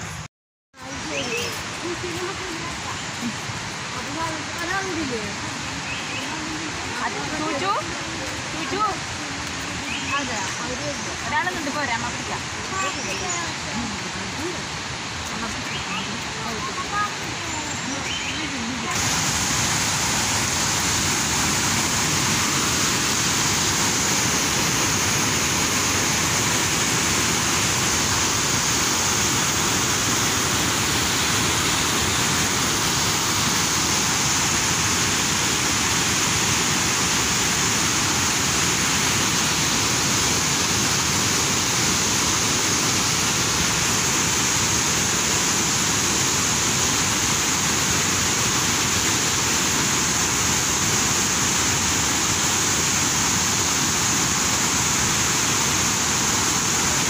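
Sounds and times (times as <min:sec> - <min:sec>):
river rushing over rapids: 0:00.0 - 0:57.0.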